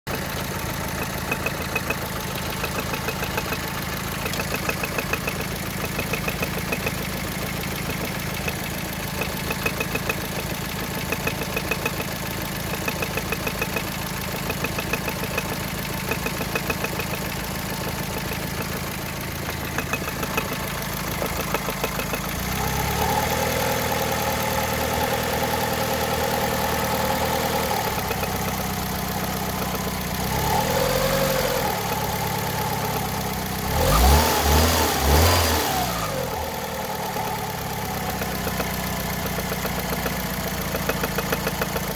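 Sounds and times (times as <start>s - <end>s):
car engine idling: 0.0s - 41.9s
engine ticking: 0.0s - 41.9s.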